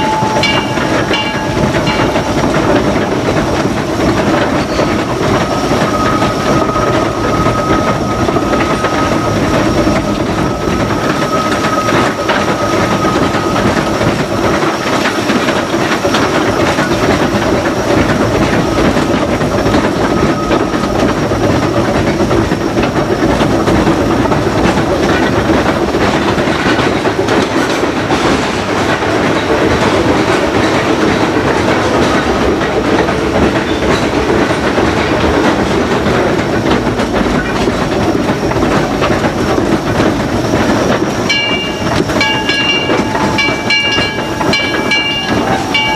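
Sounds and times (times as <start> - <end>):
steam locomotive rumble: 0.0 - 45.9
wheels clattering: 0.0 - 45.9.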